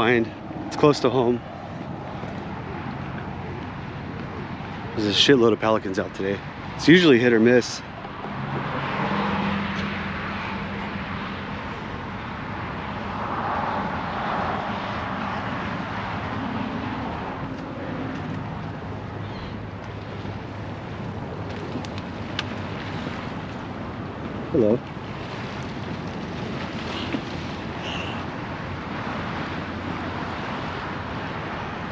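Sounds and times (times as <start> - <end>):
distant road traffic: 0.0 - 31.9.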